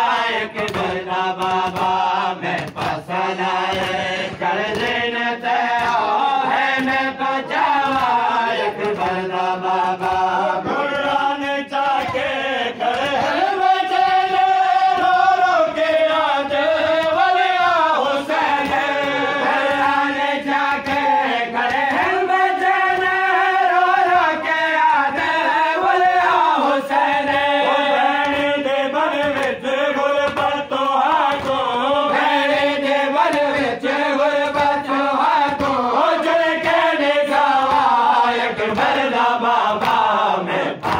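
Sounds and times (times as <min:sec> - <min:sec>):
men chanting a lament: 0:00.0 - 0:40.9.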